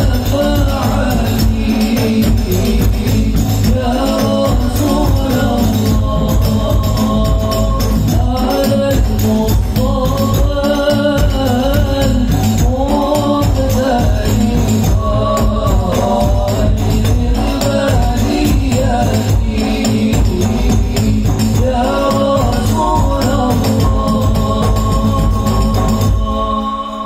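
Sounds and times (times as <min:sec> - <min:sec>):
frame drums and metal drums beating: 0:00.0 - 0:26.6
men singing through a pa system: 0:00.0 - 0:27.0.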